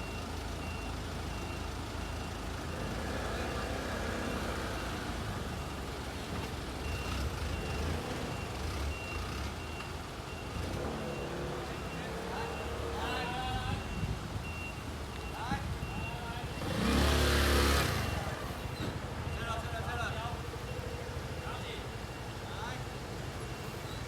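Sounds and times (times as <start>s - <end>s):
truck engine running: 0.0s - 24.0s
back-up alarm beeping: 3.5s - 24.0s.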